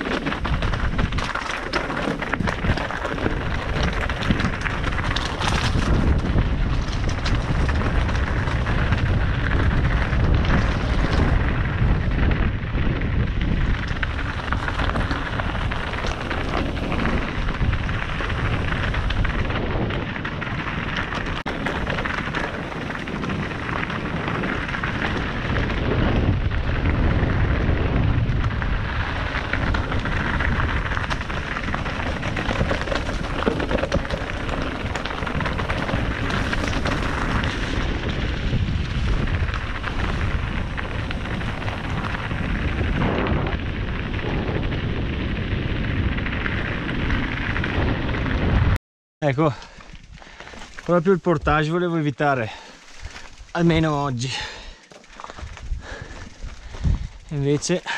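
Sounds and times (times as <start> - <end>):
wind rumble on microphone: 0.0 - 48.8, 52.4 - 57.9
bike tyres crunching over gravel: 0.0 - 57.9.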